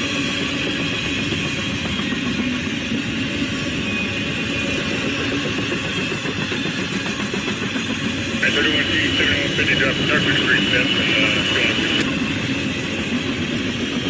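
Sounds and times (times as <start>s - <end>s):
freight train wheels on rail: 0.0s - 14.0s.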